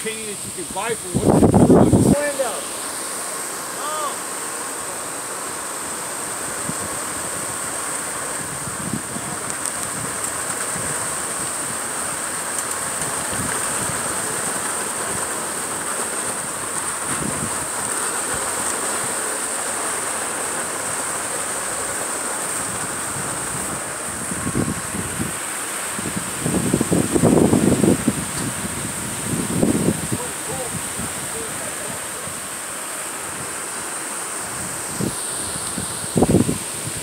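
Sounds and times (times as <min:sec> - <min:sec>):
concrete pump truck running: 0:00.0 - 0:37.0.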